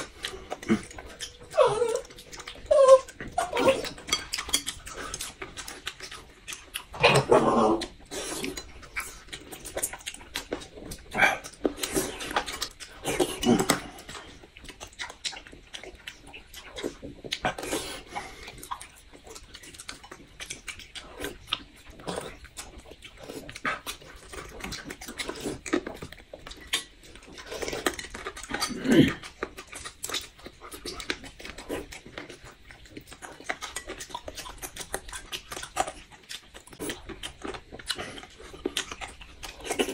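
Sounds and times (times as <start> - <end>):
smacking chewing: 0.0 - 39.9.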